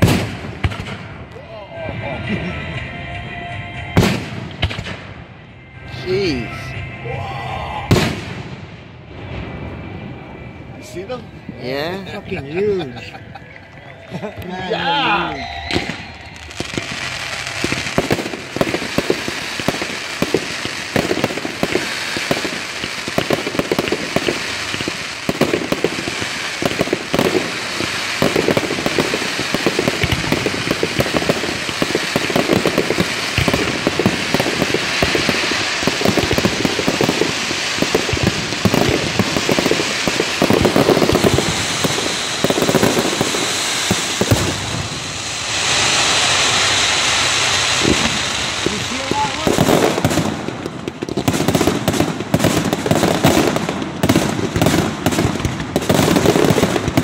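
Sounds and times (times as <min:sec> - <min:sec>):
fireworks crackling: 0:00.0 - 0:57.0.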